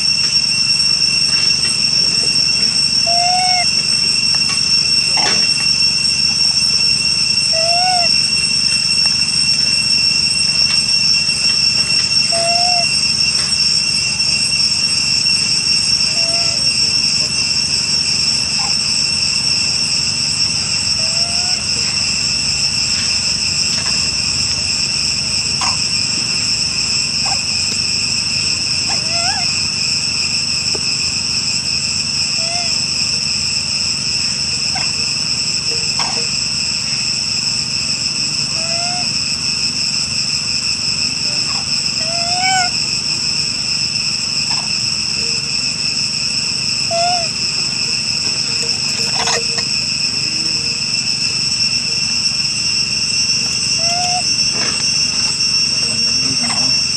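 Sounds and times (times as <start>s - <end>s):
insect chorus drone: 0.0s - 56.9s
rising chirp-like calls: 0.0s - 56.9s.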